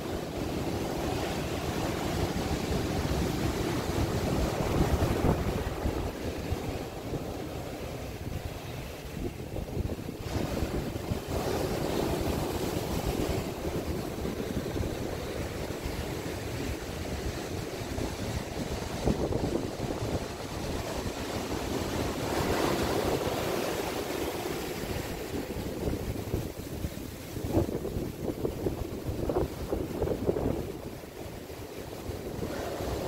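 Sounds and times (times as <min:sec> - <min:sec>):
ocean surf breaking on sand: 0:00.0 - 0:33.0.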